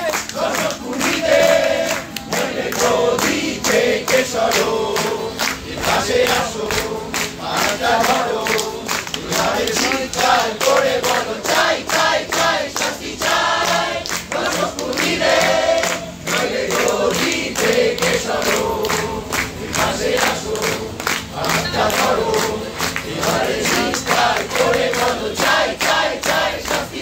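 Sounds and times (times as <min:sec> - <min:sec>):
crowd singing in chorus: 0:00.0 - 0:27.0.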